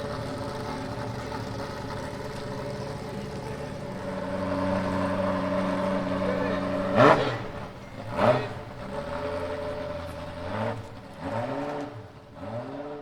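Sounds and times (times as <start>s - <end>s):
sports car engine idling and revving: 0.0s - 13.0s.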